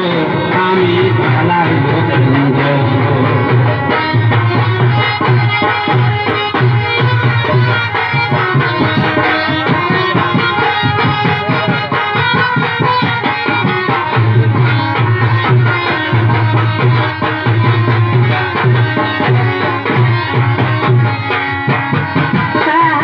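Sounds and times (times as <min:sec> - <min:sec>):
hand drums playing: 0:00.0 - 0:23.0
sustained melodic instruments: 0:00.0 - 0:23.0.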